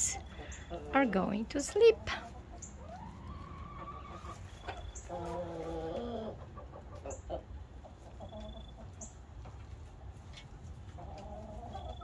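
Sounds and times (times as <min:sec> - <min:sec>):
hens clucking softly: 0:00.0 - 0:12.0.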